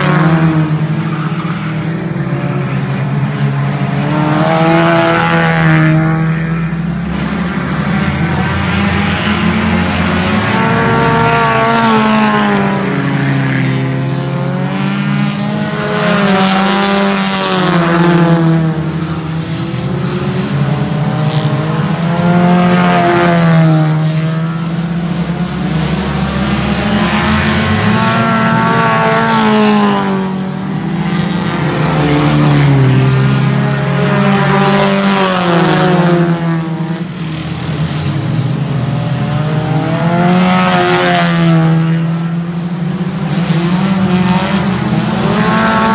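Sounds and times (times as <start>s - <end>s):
race car engines revving: 0.0s - 45.9s.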